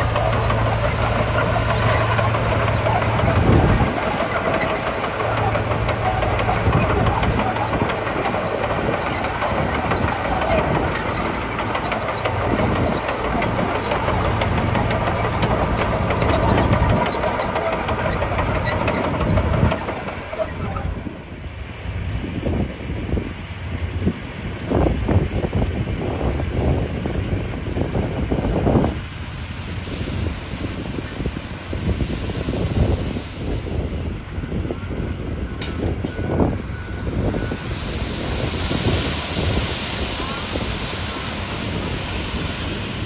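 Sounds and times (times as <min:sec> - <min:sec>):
steel tracks clattering and squeaking: 0:00.0 - 0:21.6, 0:26.0 - 0:43.0
bulldozer diesel engine humming: 0:00.0 - 0:43.0.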